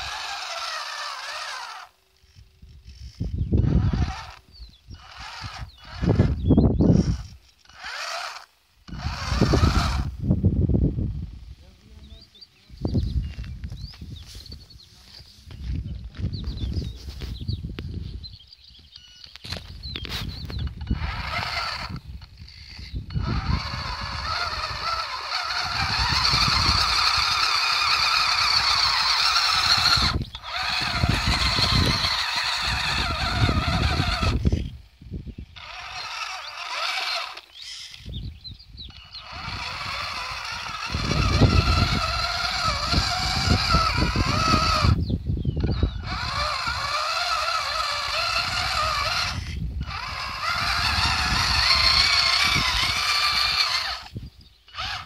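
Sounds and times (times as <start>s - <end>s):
wheels over gravel: 0.0s - 10.1s, 19.2s - 55.0s
toy electric motor whining: 0.0s - 10.5s, 12.7s - 55.0s.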